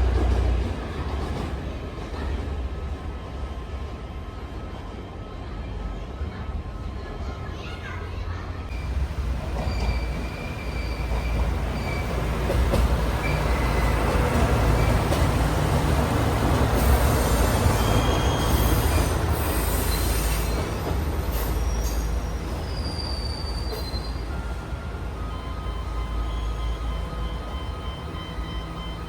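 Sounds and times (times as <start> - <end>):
train rumbling past: 0.0 - 29.0
wheels squealing against rails: 4.6 - 29.0.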